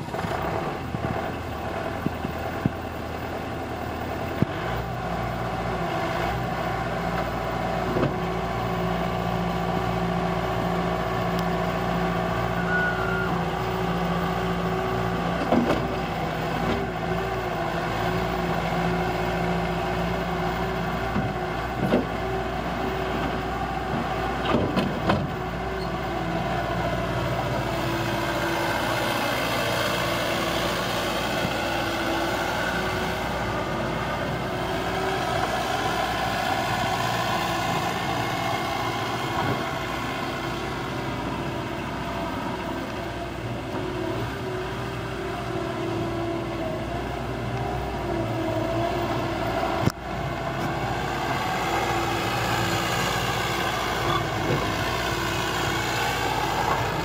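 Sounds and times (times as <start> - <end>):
diesel loader engine running: 0.0 - 57.0.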